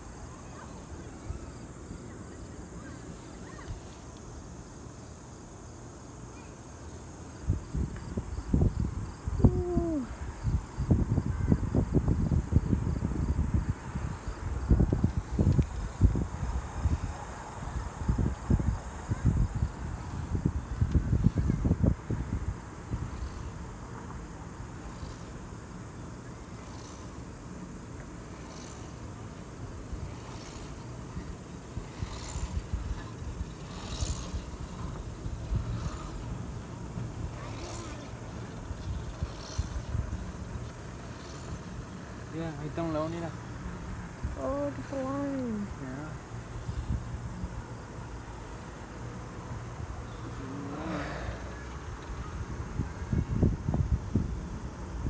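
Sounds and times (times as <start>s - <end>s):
chairlift low rumble: 7.4s - 55.0s.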